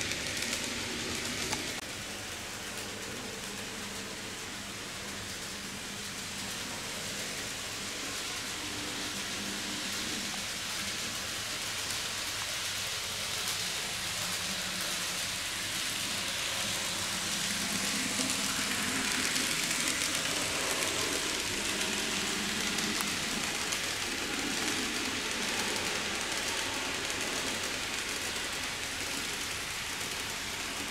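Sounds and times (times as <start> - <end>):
model train motors whirring: 0.0 - 30.9.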